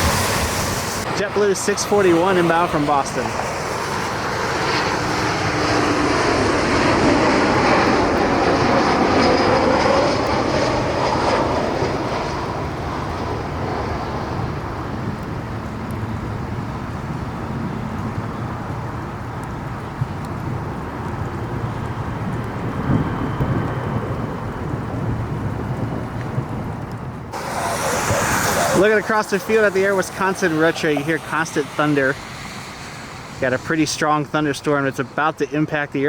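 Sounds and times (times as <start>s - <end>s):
jet airliner passing overhead: 0.0s - 36.0s.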